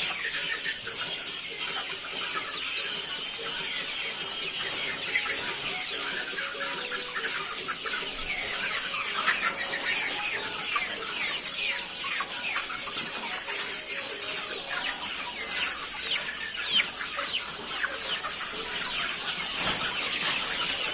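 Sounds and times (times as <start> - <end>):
chickens calling: 0.0 - 20.9.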